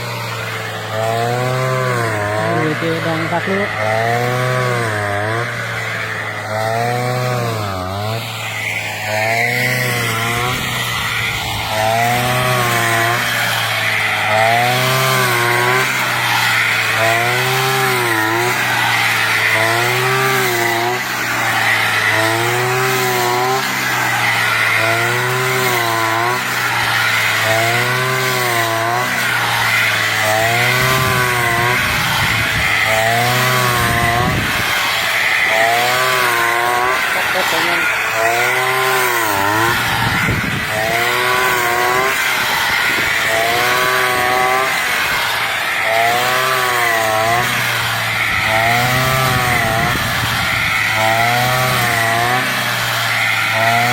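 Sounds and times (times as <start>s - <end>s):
brush cutter engine: 0.0s - 53.9s.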